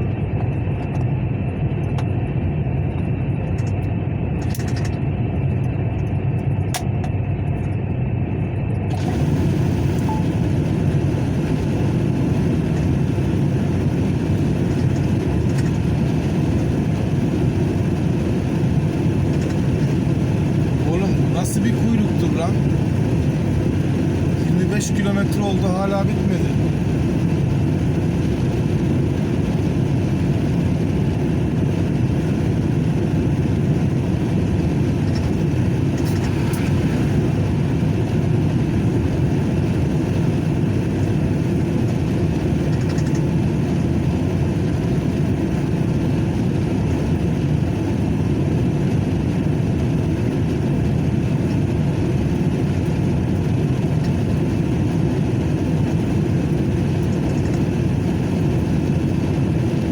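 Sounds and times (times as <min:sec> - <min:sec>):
truck engine drone: 0:00.0 - 0:59.9.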